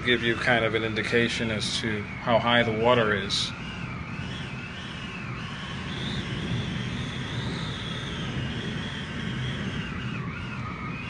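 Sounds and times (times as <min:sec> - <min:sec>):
strong wind rushing and whistling: 0:00.0 - 0:11.0.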